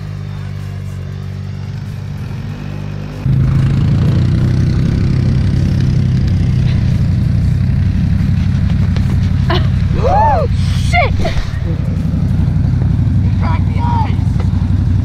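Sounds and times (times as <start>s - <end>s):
atv engines running: 0.0s - 15.0s
close atv engine rough pulse: 0.0s - 15.0s.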